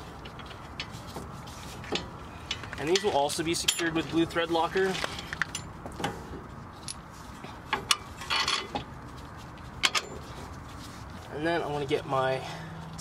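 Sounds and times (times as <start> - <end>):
short rustle: 0.0 - 13.0.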